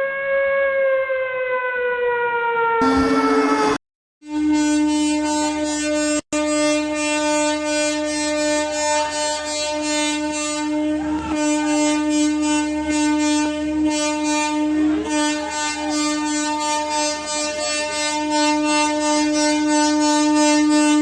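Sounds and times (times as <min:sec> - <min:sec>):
train horn blast: 0:02.8 - 0:21.0.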